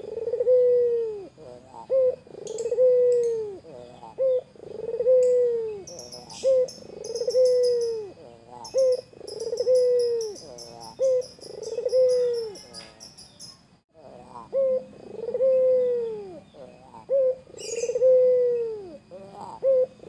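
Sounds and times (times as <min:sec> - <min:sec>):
dove cooing: 0:00.0 - 0:13.2, 0:14.0 - 0:20.0.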